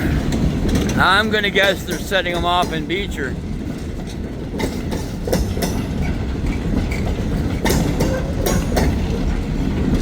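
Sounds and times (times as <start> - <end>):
train wheels rumbling on rail: 0.0 - 10.0
wheels clacking over rail joints: 0.0 - 10.0.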